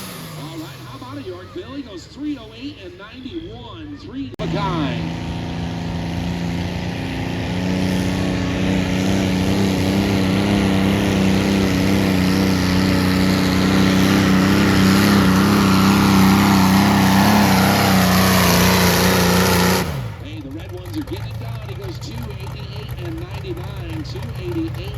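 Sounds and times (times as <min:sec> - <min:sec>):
tractor engine under full load: 0:00.0 - 0:24.9.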